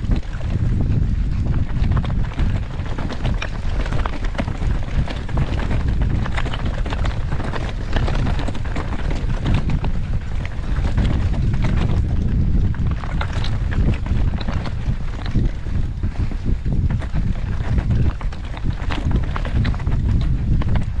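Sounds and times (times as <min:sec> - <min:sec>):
bike rattling over rocks: 0:00.0 - 0:21.0
wind rumbling on microphone: 0:00.0 - 0:21.0.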